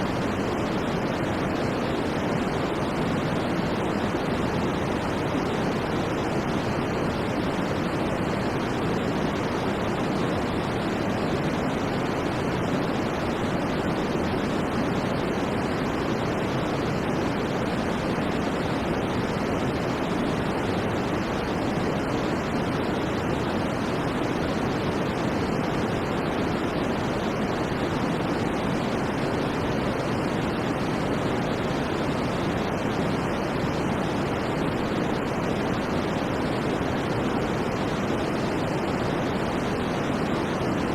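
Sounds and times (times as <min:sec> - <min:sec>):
white noise rush: 0:00.0 - 0:40.9.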